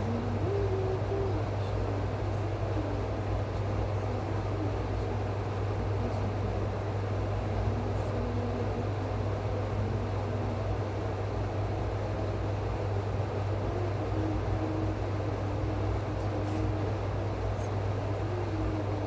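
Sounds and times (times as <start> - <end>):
mechanical hum with hiss: 0.0 - 19.0.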